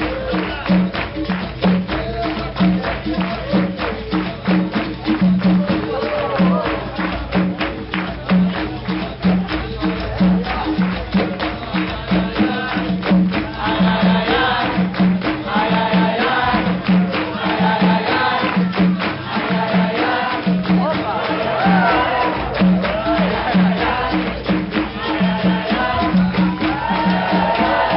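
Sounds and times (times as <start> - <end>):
fast tambourine percussion: 0.0 - 27.9
low repeating beat: 0.0 - 27.9.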